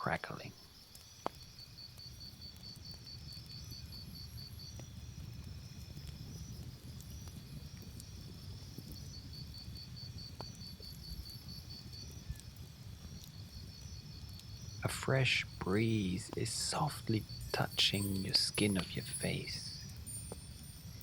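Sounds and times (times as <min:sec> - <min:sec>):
crickets chirping: 0:00.0 - 0:21.0
campfire rumble: 0:00.3 - 0:21.0
fire crackling pops: 0:00.3 - 0:21.0.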